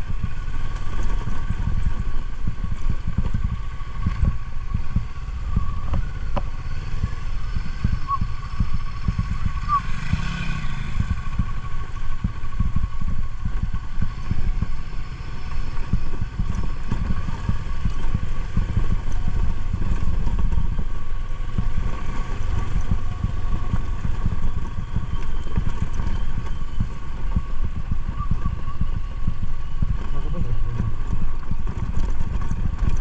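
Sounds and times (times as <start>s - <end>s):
motorcycle running: 0.0s - 33.0s.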